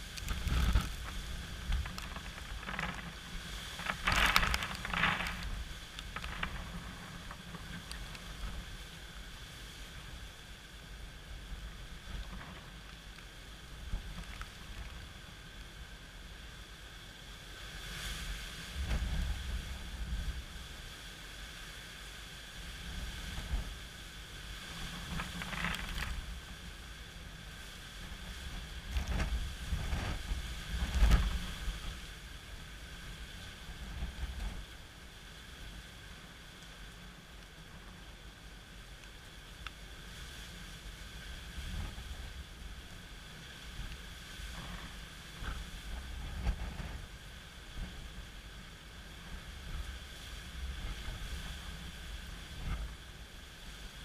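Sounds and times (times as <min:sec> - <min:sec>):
wind gusting on microphone: 0:00.0 - 0:16.5, 0:17.6 - 0:21.3, 0:22.4 - 0:38.8, 0:39.4 - 0:54.0
steady rain: 0:00.0 - 0:54.0.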